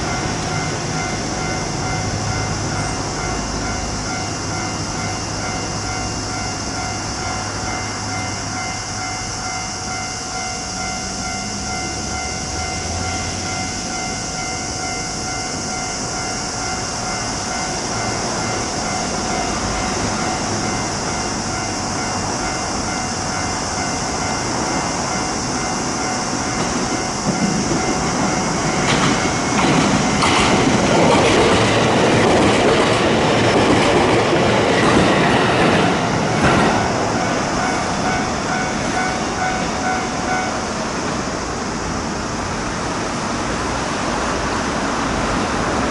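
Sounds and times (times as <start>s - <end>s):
level crossing alarm ringing: 0.0s - 41.3s
electric train wheels on rails: 0.0s - 45.9s.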